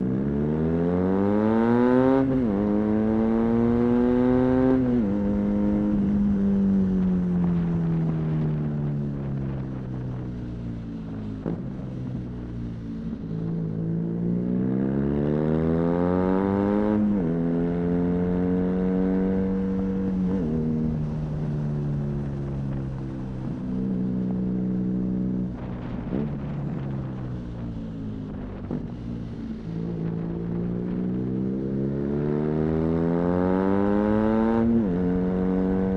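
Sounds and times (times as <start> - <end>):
motorcycle engine accelerating: 0.0 - 35.9
road and wind rumble: 0.0 - 35.9.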